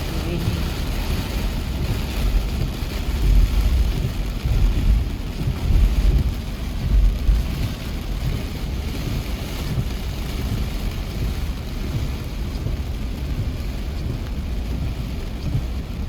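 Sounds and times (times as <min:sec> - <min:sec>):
rain hissing: 0:00.0 - 0:16.0
vehicle low rumble: 0:00.0 - 0:16.0
wet road noise: 0:00.0 - 0:16.0.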